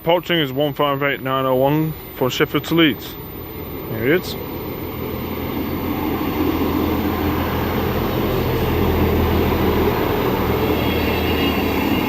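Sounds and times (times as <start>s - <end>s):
train engines and wheels rumbling: 0.0s - 12.0s.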